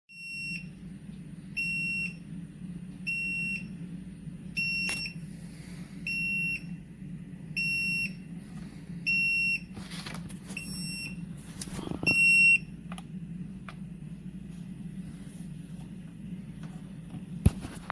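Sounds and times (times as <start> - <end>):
low hum: 0.3 - 17.9.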